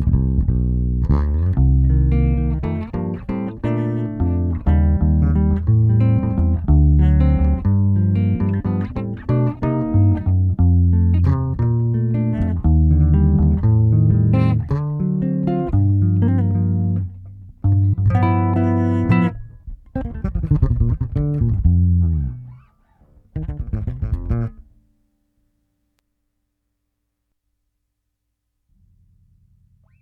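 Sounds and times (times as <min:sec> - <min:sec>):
electric bass guitar plucked notes: 0:00.0 - 0:24.8.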